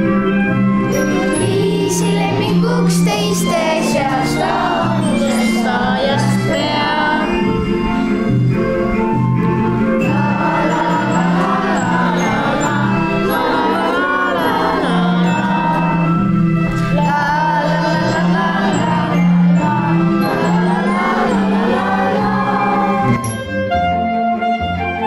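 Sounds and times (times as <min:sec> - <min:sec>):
instrumental accompaniment: 0:00.0 - 0:25.0
children singing in unison: 0:00.9 - 0:08.3, 0:10.0 - 0:23.2.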